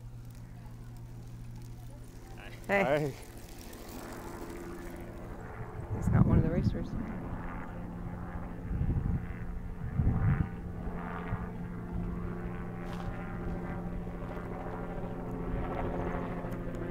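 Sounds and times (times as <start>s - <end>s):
steady engine drone: 0.0s - 16.9s.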